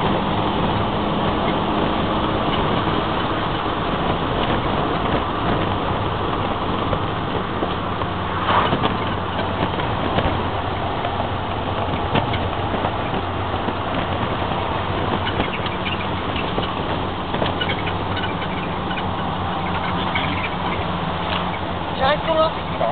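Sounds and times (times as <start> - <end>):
car engine running: 0.0 - 22.9
road and wind noise: 0.0 - 22.9.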